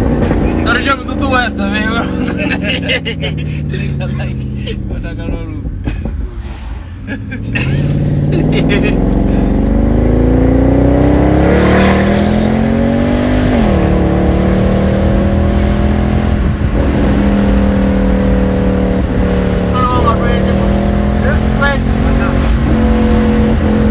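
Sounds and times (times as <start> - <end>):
car engine accelerating: 0.0 - 23.9.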